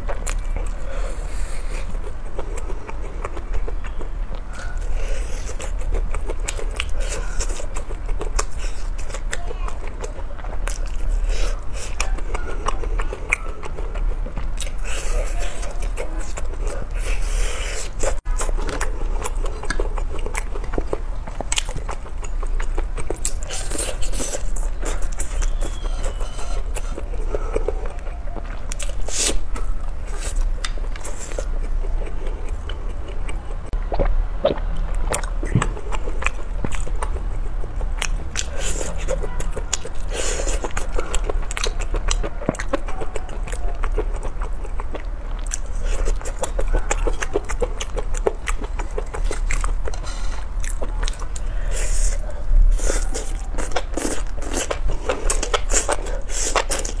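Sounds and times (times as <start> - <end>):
open-mouth chewing: 0.0 - 57.0
steady low hum: 0.0 - 57.0.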